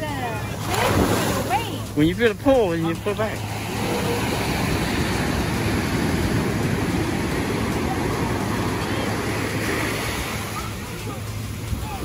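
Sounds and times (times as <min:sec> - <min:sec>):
ocean surf breaking on beach: 0:00.5 - 0:12.0.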